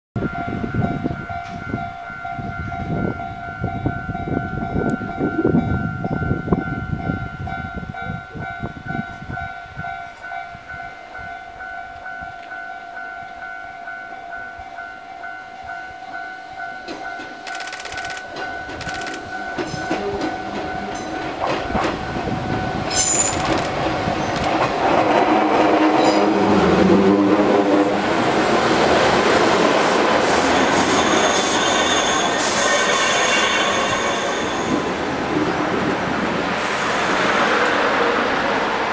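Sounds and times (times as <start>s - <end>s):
electric train running on rails: 0.2s - 38.9s.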